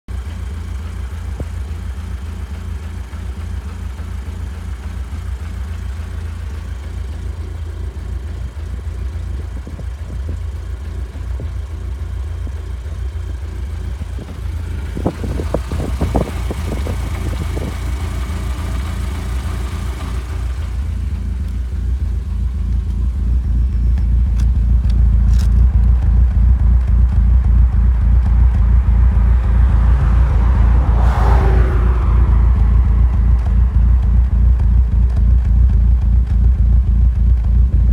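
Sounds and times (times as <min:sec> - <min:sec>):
car engine idling roughly: 0:00.1 - 0:29.6, 0:32.4 - 0:37.9.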